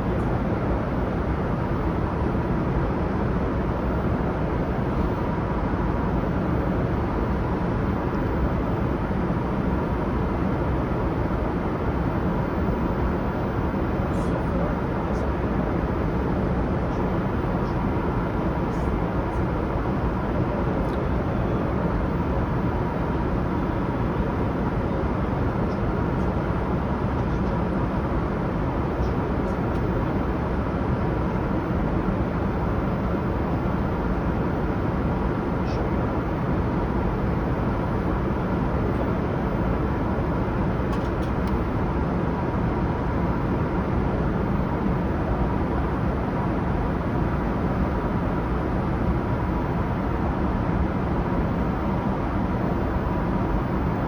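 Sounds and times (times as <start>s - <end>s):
airplane cabin airflow and engine: 0.0s - 54.0s.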